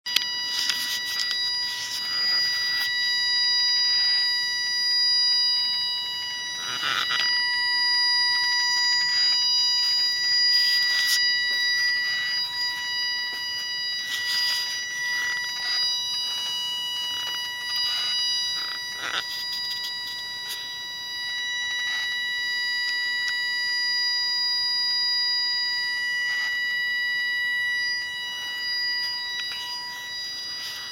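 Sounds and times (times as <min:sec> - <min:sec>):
high-pitched engine whine: 0:00.1 - 0:30.9.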